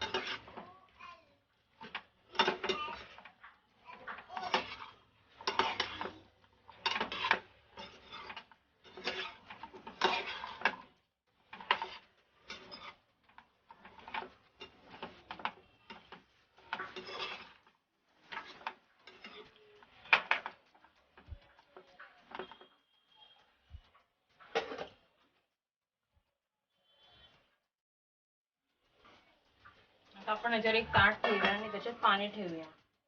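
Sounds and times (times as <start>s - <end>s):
spatula scraping a pan: 0.0s - 25.2s, 28.8s - 33.0s.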